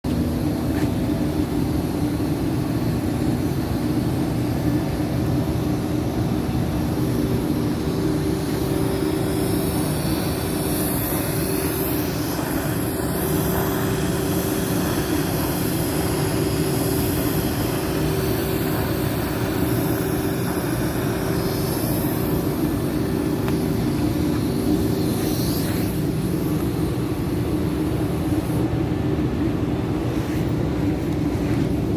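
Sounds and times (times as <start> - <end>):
steady machine drone: 0.1 - 31.9.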